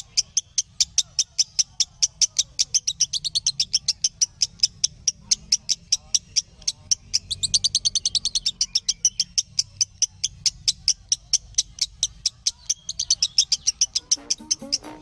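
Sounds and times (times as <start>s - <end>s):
lovebird chirping rapidly: 0.0s - 15.0s.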